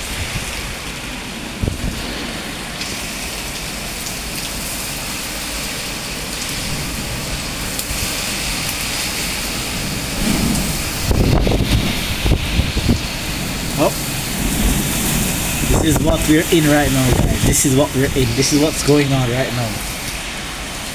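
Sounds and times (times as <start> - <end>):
heavy rain pouring: 0.0 - 20.9
low wind rumble: 0.0 - 20.9.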